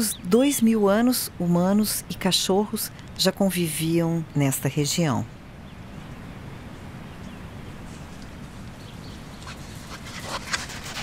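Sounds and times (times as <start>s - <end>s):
low wind: 0.0s - 11.0s.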